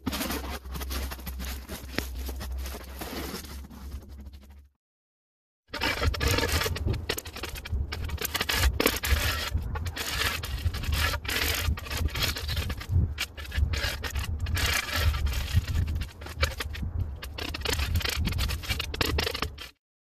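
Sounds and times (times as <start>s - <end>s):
shovel scraping snow: 0.0s - 4.1s, 5.8s - 19.6s.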